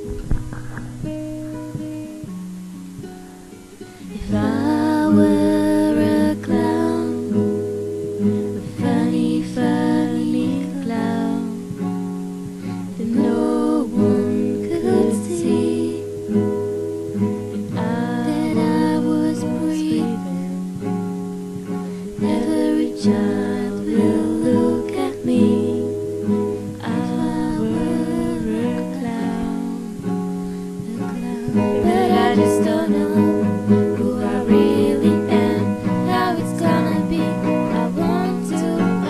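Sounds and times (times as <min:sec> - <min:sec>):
strummed acoustic guitar: 0:00.0 - 0:39.0
girl singing: 0:03.7 - 0:16.4, 0:17.5 - 0:20.9, 0:21.7 - 0:39.0.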